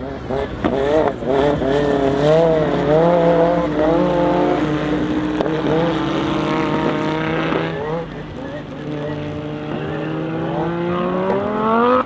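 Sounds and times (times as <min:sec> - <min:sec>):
car engine revving: 0:00.0 - 0:12.0
steady engine note: 0:00.0 - 0:12.0.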